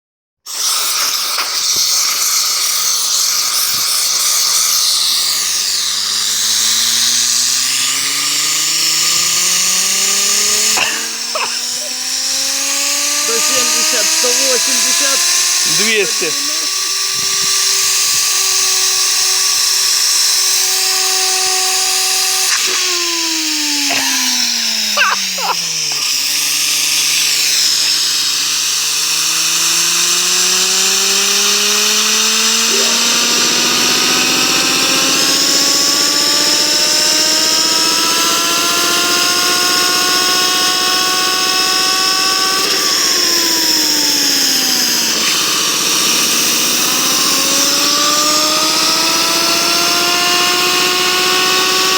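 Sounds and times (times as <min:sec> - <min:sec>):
bearing humming with whine: 0:02.5 - 0:51.9.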